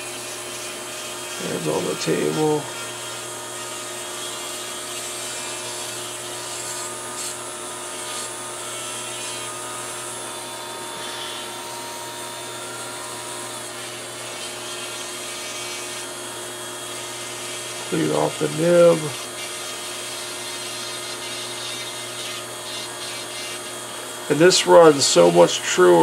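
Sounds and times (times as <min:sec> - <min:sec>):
rotary tool grinding plastic: 0:00.0 - 0:10.1, 0:12.4 - 0:26.0.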